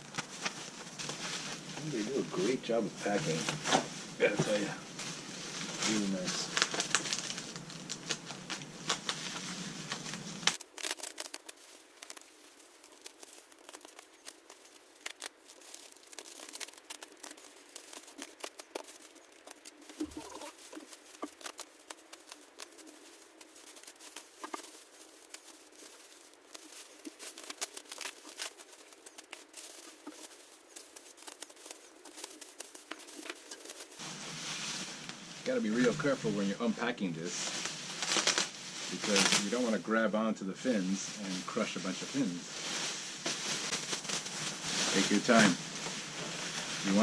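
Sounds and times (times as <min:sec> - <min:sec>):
packing material crinkling and tearing: 0:00.0 - 0:47.0.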